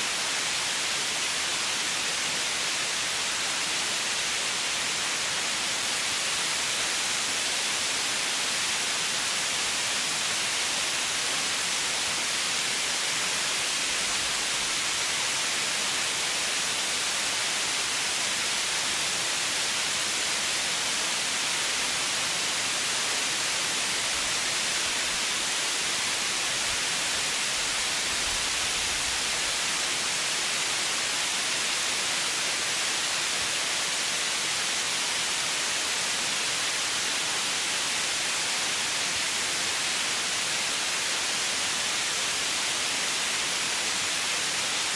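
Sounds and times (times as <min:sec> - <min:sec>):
steady white noise hiss: 0:00.0 - 0:44.9.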